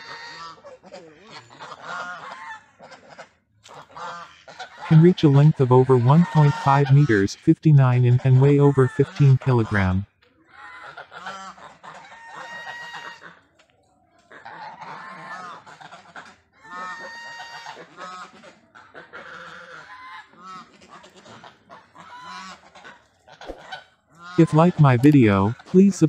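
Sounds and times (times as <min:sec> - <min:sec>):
geese honking and gabbling: 0:00.0 - 0:07.4, 0:08.0 - 0:13.5, 0:14.2 - 0:26.0.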